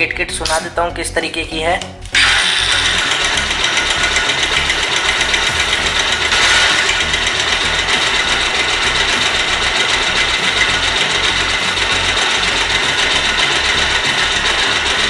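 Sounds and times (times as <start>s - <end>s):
motorcycle engine idling: 2.2s - 15.0s
timing chain ticking: 2.2s - 15.0s.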